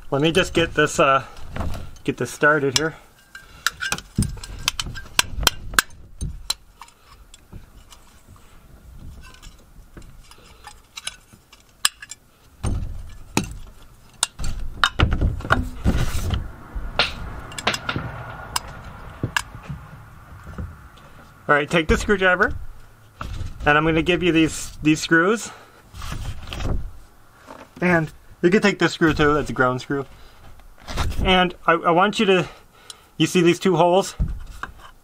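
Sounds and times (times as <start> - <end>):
handling bumps and rustling: 0.0 - 31.8, 34.0 - 35.0.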